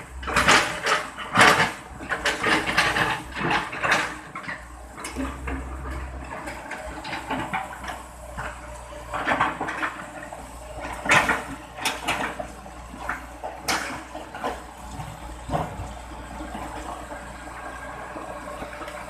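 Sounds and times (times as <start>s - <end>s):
excavator engine humming: 0.0s - 19.0s
clunks and rattles: 0.2s - 17.0s.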